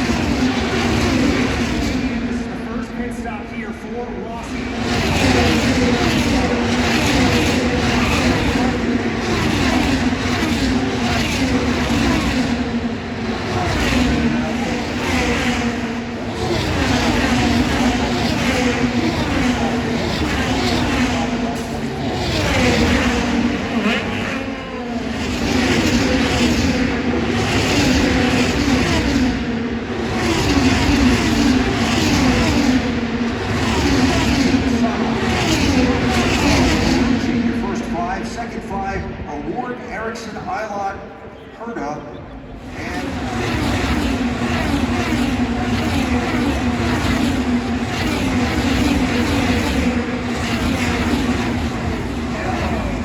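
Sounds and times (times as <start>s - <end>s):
race car engines passing: 0.0s - 53.0s.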